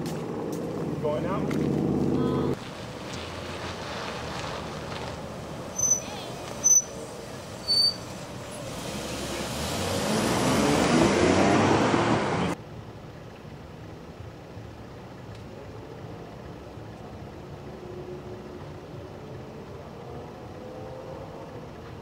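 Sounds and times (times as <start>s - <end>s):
road vehicle passing close: 0.0s - 12.6s, 13.7s - 22.0s.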